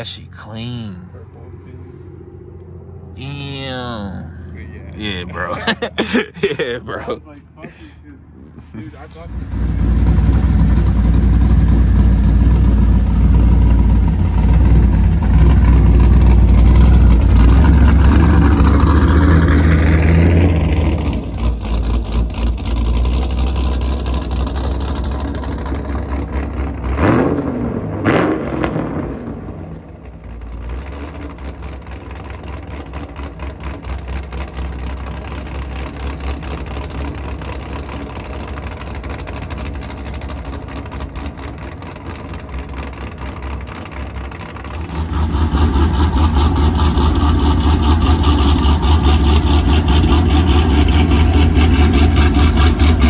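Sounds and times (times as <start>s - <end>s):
car engine accelerating: 8.2s - 53.0s
engine revving: 8.9s - 53.0s.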